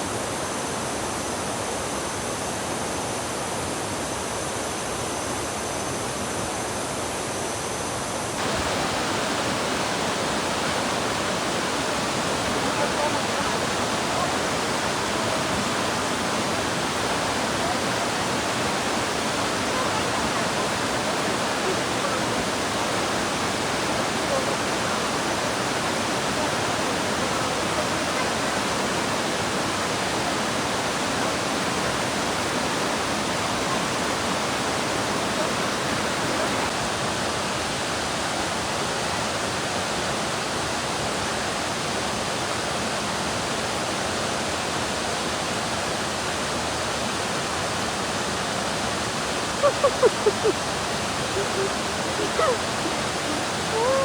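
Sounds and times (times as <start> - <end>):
waterfall rushing: 8.3 - 54.0.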